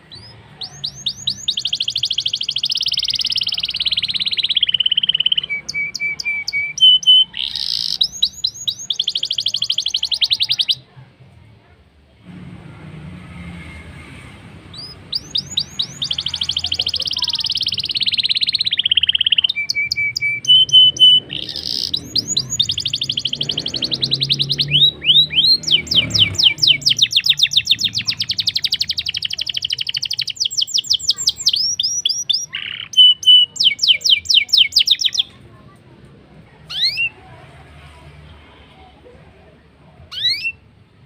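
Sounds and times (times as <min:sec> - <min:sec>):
canary singing fast trill: 0:00.0 - 0:10.8, 0:14.2 - 0:35.4, 0:36.6 - 0:37.3, 0:40.1 - 0:40.9.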